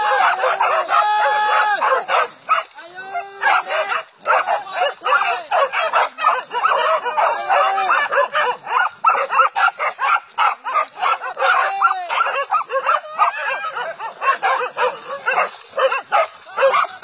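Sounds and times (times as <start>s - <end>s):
dogs barking and yelping: 0.0s - 2.8s, 3.4s - 17.0s.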